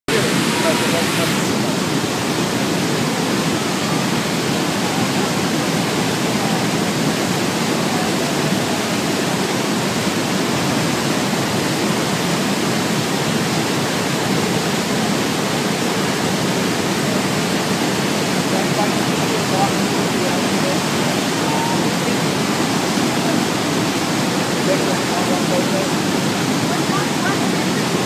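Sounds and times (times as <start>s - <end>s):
waterfall roaring: 0.1s - 28.0s.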